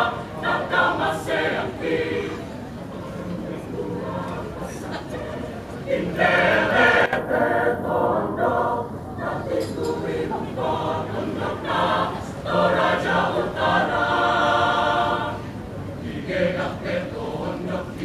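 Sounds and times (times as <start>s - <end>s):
choir singing: 0.0s - 2.7s, 3.6s - 18.0s.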